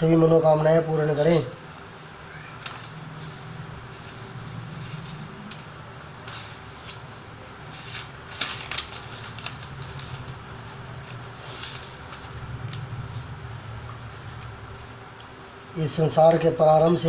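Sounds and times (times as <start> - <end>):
low mechanical hum: 0.0 - 17.0
rustling: 1.7 - 15.8.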